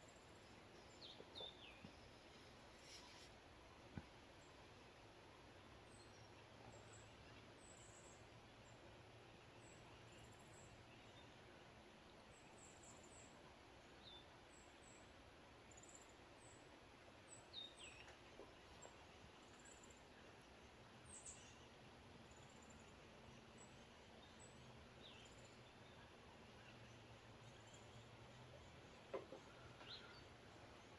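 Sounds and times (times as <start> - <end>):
low steady hiss: 0.0 - 30.9.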